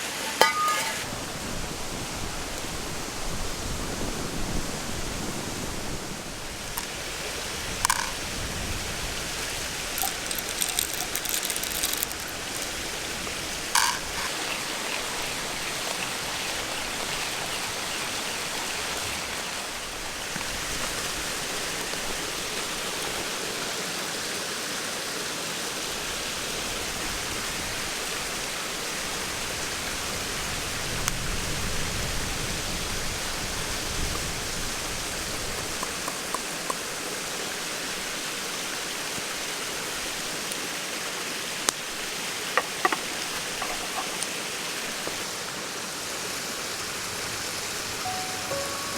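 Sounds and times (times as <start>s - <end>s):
stream water flowing: 2.6s - 26.7s, 33.1s - 48.9s.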